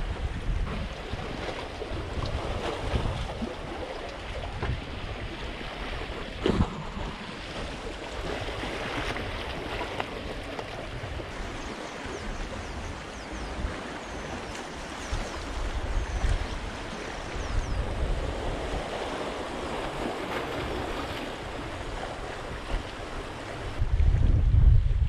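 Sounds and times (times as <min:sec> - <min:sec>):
sea waves washing against concrete: 0:00.0 - 0:23.9
wind buffeting microphone: 0:00.0 - 0:25.0.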